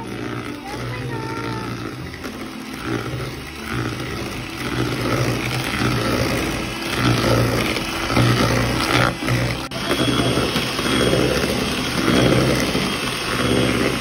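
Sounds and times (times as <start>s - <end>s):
electric hand mixer running: 0.0s - 14.0s.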